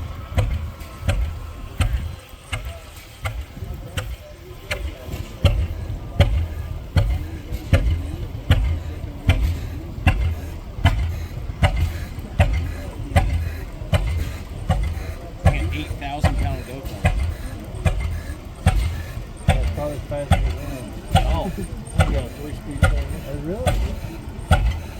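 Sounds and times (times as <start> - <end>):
sharp exhaust pops: 0.0 - 24.9
tractor engine running slowly: 0.0 - 24.9.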